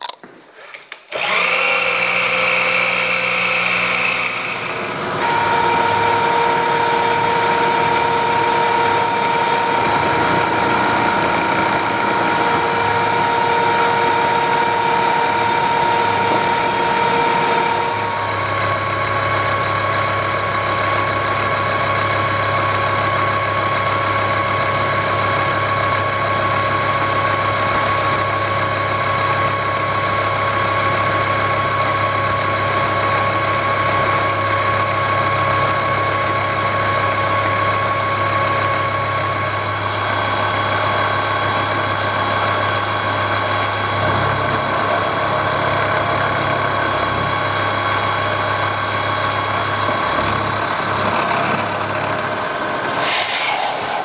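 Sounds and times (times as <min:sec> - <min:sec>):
milling machine cutting metal: 0:01.1 - 0:54.0.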